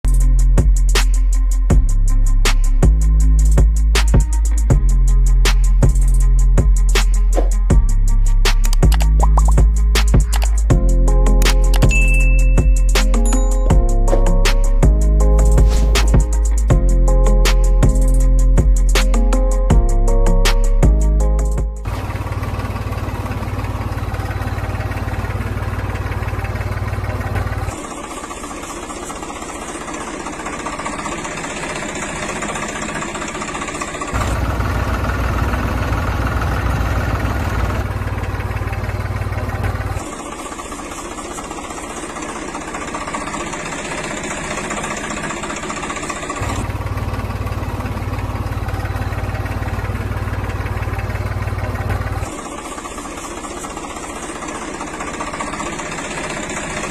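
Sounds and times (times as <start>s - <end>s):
engine idling: 0.0s - 56.9s.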